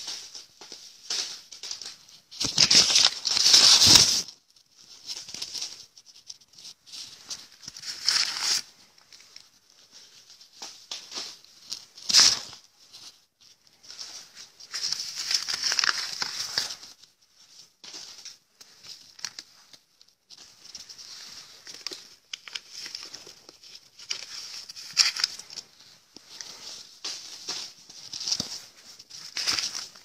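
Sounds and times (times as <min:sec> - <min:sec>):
paper banknotes rustling: 0:00.0 - 0:30.0.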